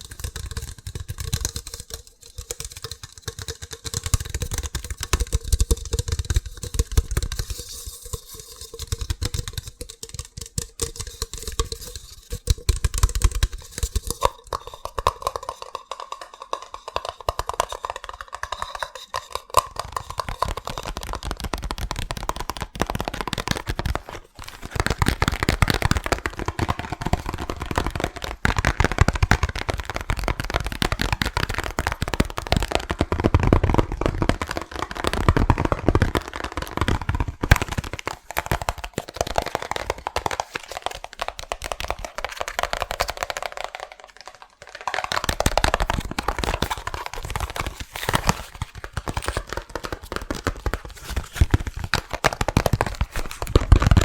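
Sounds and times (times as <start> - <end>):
rapid tapping on hard objects: 0.0 - 54.0.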